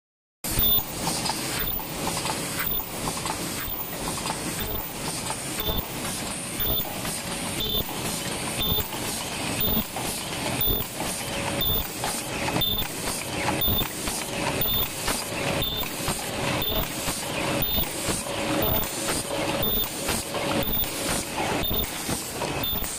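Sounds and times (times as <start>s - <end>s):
machine clattering: 0.5s - 22.9s.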